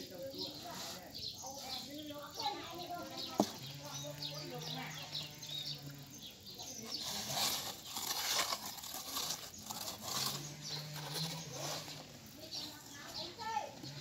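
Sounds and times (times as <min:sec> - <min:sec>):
toy scraping through dirt: 0:00.0 - 0:14.0.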